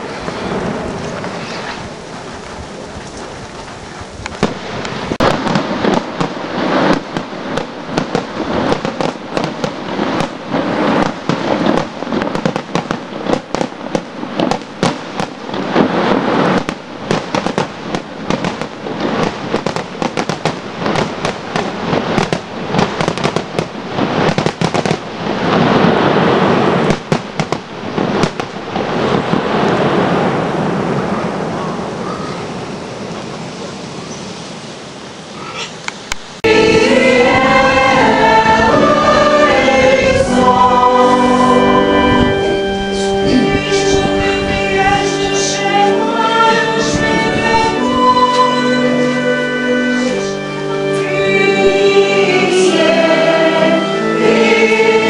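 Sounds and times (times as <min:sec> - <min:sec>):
fireworks bangs and crackles: 0:00.0 - 0:35.1, 0:35.9 - 0:53.2.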